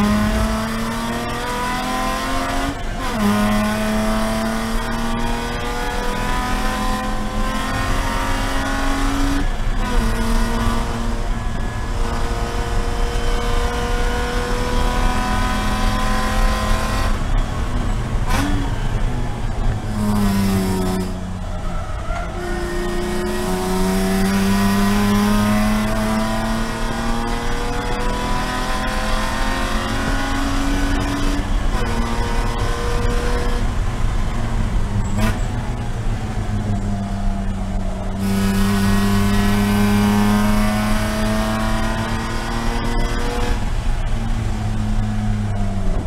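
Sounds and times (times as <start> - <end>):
race car engine revving: 0.0 - 46.0.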